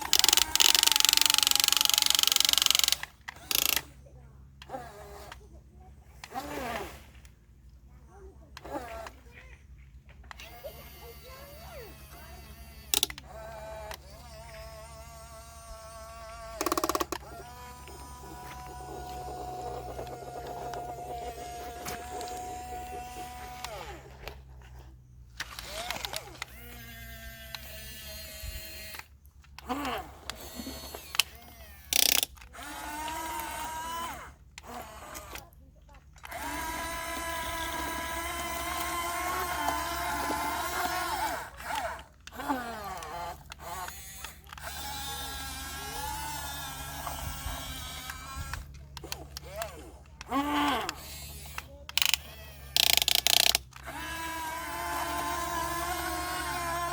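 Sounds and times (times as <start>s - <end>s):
small electric motor whining: 0.0s - 56.9s.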